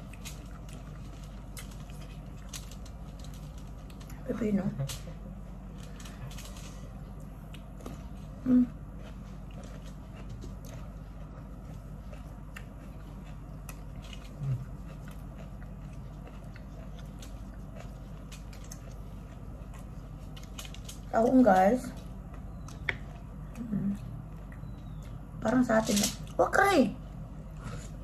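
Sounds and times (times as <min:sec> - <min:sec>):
chewing and crunching: 0:00.0 - 0:28.0
steady low hum: 0:00.0 - 0:28.0.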